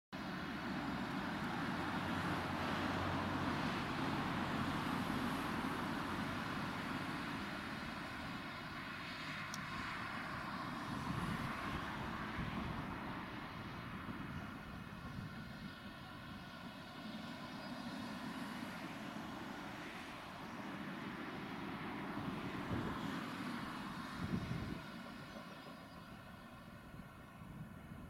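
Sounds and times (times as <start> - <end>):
distant steam locomotive roar: 0.2 - 28.0.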